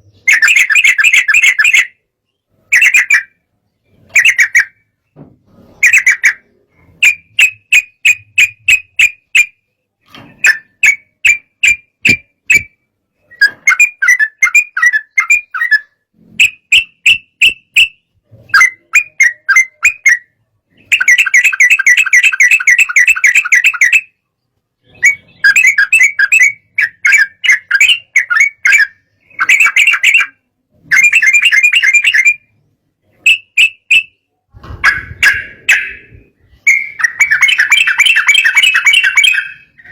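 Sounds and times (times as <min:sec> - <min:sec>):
bird chattering song: 0:00.0 - 0:09.8, 0:10.4 - 0:32.5, 0:34.8 - 0:39.9.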